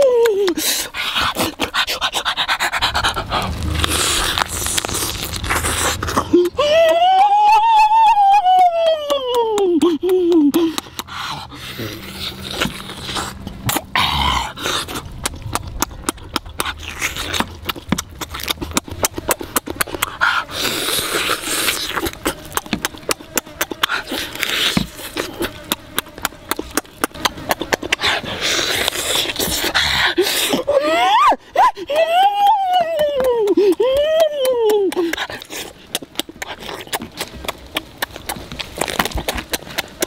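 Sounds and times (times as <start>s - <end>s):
person chewing with lips smacking: 0.0s - 7.0s, 8.5s - 30.7s, 31.6s - 40.0s.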